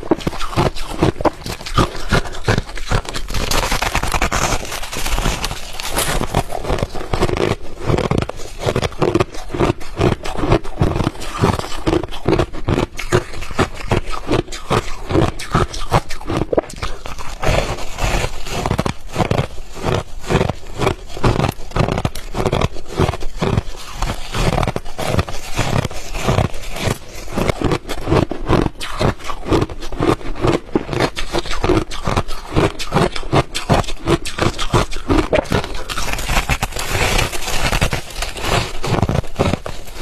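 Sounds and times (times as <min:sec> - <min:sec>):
person chewing ice: 0:00.0 - 0:40.0.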